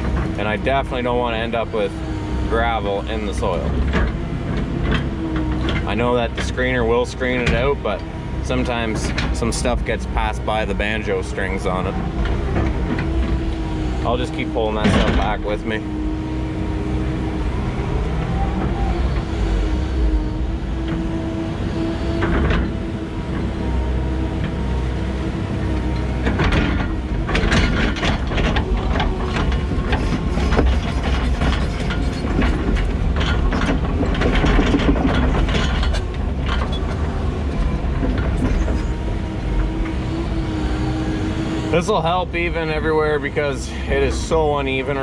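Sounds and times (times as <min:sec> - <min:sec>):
metallic clanking and rattling: 0:00.0 - 0:21.3, 0:22.0 - 0:45.0
excavator engine running: 0:00.0 - 0:45.0.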